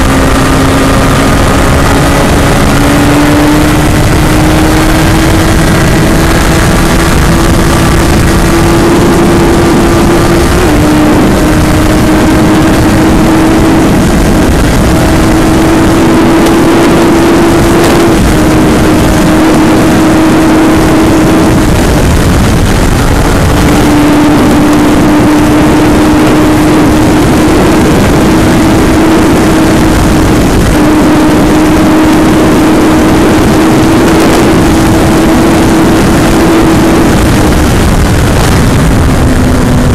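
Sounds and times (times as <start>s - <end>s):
motorcycle engine at high revs: 0.0s - 39.9s
wind rush on microphone: 0.0s - 39.9s.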